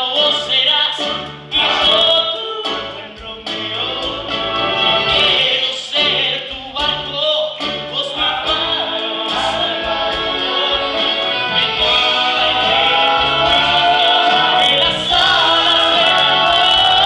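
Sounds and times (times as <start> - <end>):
band accompaniment: 0.0 - 17.0
male backing vocals: 0.0 - 17.0
man singing: 0.0 - 17.0.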